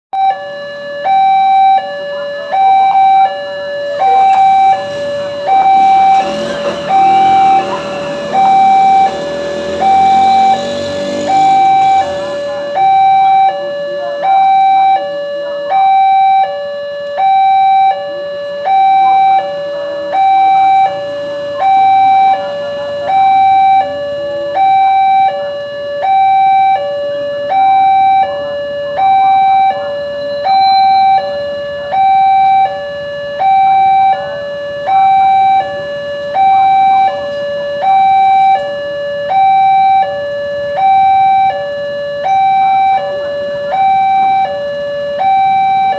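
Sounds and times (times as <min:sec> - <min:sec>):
two-tone level crossing warning signal: 0:00.1 - 0:45.9.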